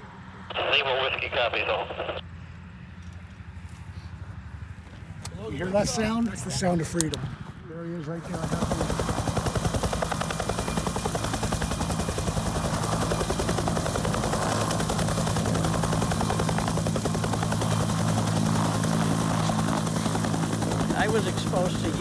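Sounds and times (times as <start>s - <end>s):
helicopter rotor whop: 3.0s - 22.0s.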